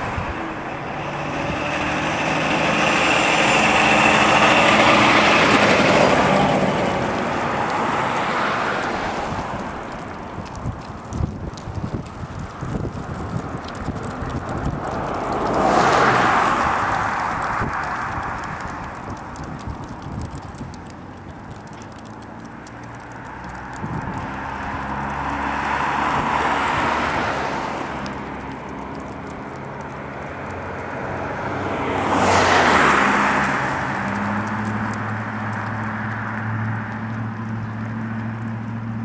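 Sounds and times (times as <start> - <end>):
car passing: 0.0 - 39.0
freight cars rolling: 0.0 - 39.0
low engine hum: 0.0 - 39.0.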